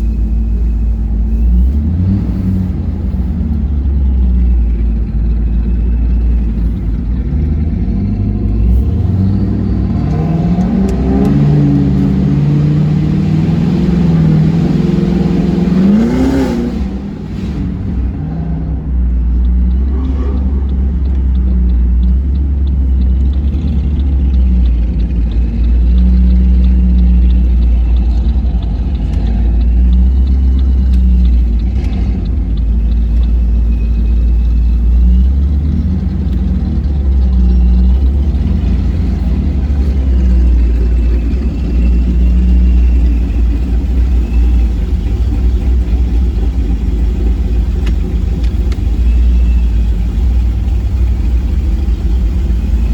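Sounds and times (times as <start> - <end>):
car engine exhaust revving: 0.0 - 52.9.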